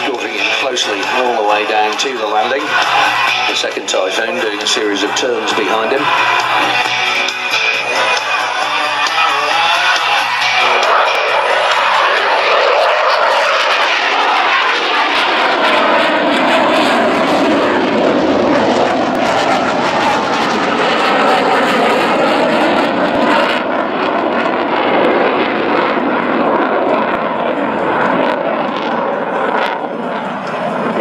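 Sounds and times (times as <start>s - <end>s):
jet engine noise: 0.0s - 31.0s.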